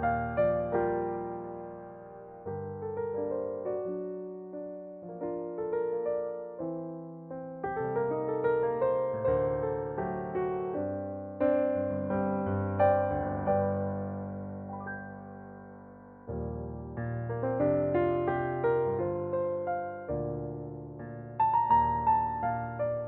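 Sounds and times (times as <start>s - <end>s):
slow soft piano music: 0.0s - 23.0s.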